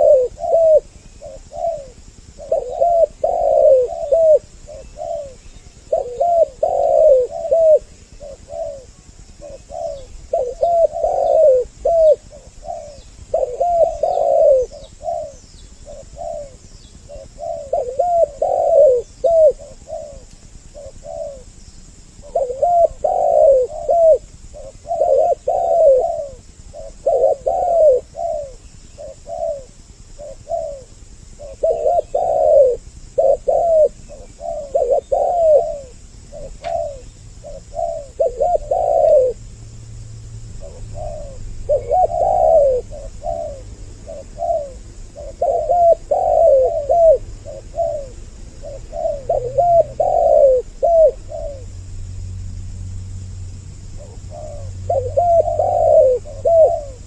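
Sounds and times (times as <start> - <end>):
doves cooing: 0.0 - 57.0.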